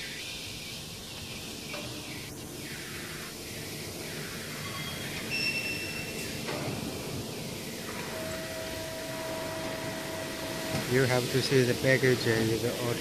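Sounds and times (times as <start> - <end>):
steady whine: 0.0 - 13.0
hydraulic pump humming: 0.7 - 13.0.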